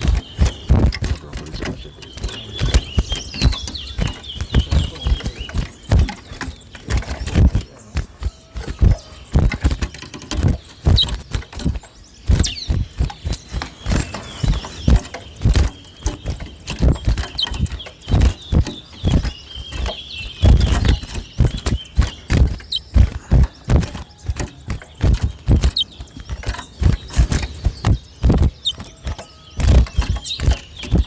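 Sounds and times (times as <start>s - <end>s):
finches chirping: 0.0s - 31.0s
sharp knocks and thumps: 0.0s - 31.0s.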